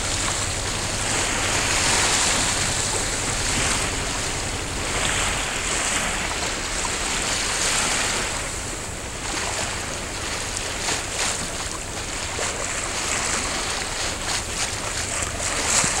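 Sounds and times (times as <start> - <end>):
seawater splashing and sloshing: 0.0 - 16.0
wind rumbling on microphone: 0.0 - 16.0.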